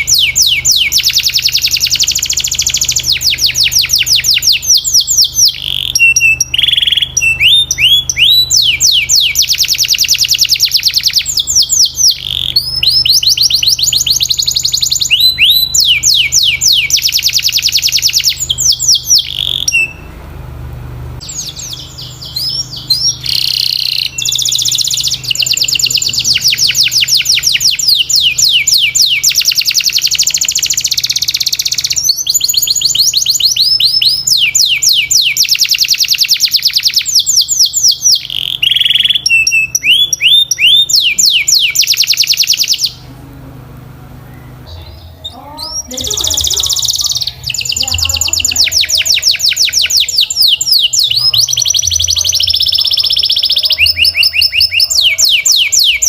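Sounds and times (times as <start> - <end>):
canary singing trills: 0.0 - 20.2, 21.2 - 56.0.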